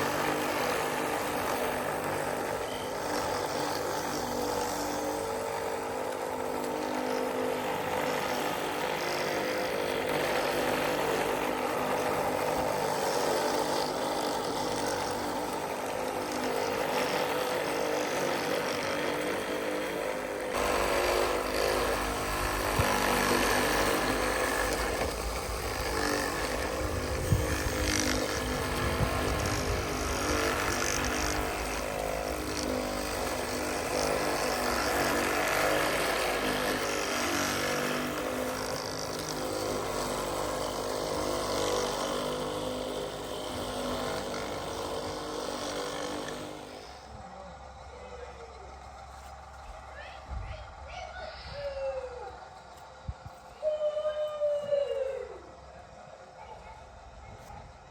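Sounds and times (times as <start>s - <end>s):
small electric motors whining: 0.0s - 57.9s.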